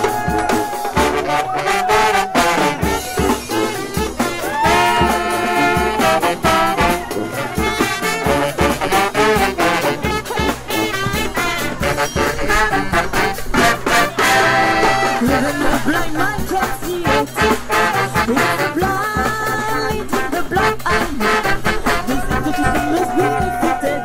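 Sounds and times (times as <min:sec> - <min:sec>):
brass band playing funk: 0:00.0 - 0:24.0
snare and bass drum beat: 0:00.0 - 0:24.0.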